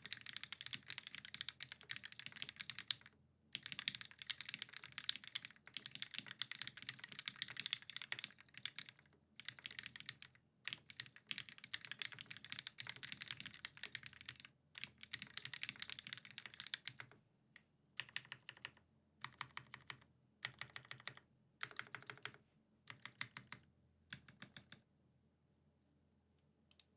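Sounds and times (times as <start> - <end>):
mechanical keyboard typing: 0.0 - 17.2, 18.0 - 24.8.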